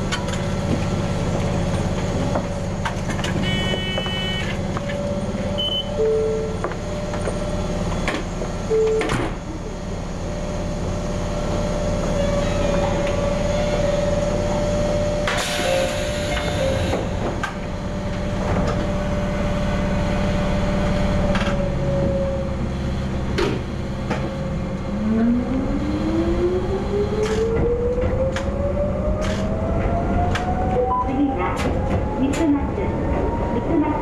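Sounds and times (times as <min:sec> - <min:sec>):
electric train hum: 0:00.0 - 0:34.0.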